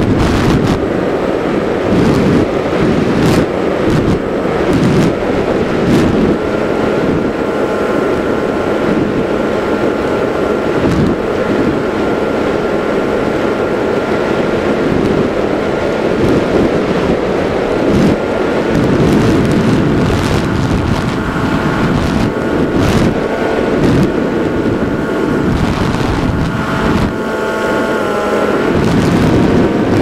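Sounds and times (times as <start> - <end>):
propeller motor whine: 0.0 - 30.0
wind rush on microphone: 0.0 - 30.0.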